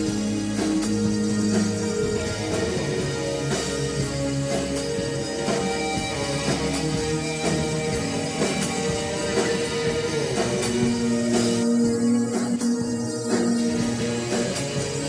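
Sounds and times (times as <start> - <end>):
live band playing synth-pop: 0.0 - 15.0.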